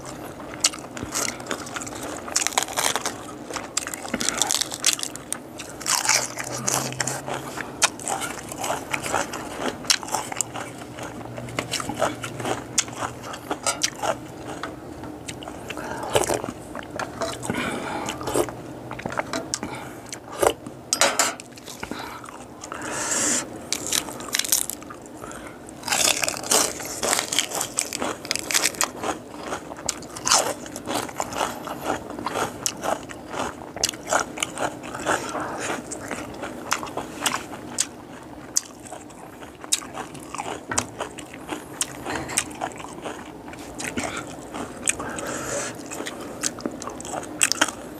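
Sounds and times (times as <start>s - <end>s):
chewing and crunching: 0.0s - 20.7s, 21.4s - 47.9s.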